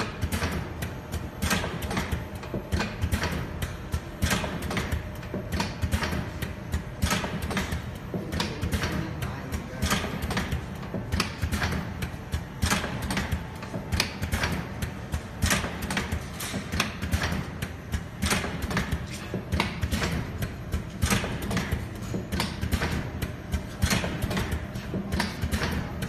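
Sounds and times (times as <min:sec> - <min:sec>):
machine parts clicking and clacking: 0:00.0 - 0:26.0.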